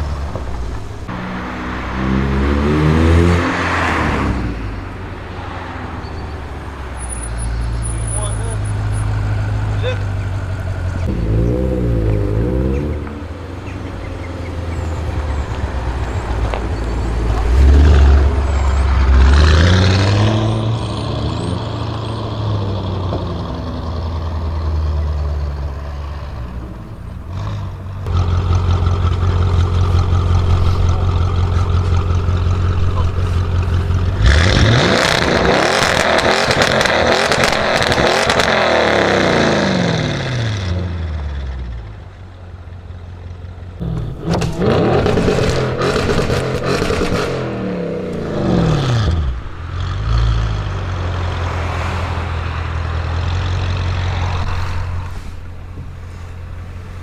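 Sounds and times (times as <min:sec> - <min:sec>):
car engine revving and accelerating: 0:00.0 - 0:41.9, 0:43.8 - 0:57.0.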